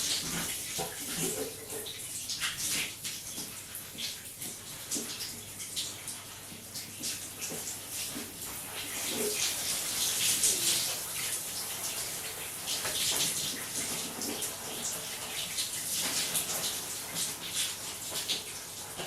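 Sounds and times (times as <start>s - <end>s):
shower water spraying: 0.0s - 19.0s.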